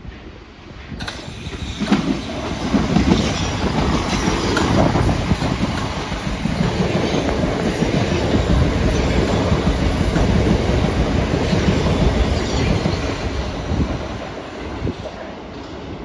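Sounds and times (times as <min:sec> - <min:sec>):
train rumbling past on rails: 0:00.0 - 0:16.0.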